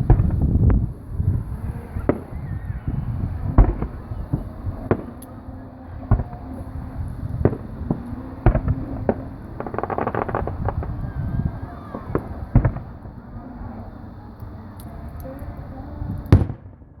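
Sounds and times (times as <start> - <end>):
fireworks bangs: 0.0 - 14.1, 16.1 - 17.0
steady low rumble: 0.0 - 17.0.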